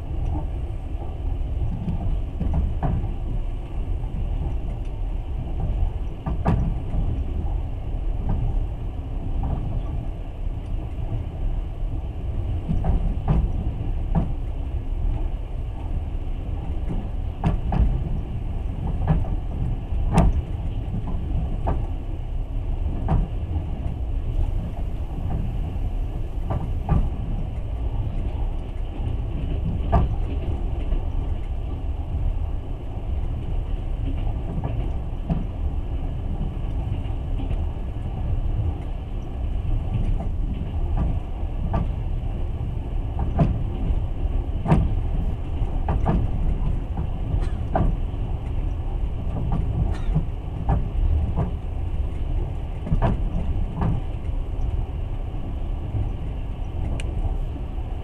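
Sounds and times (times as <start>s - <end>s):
train carriage rumbling on rails: 0.0s - 58.0s.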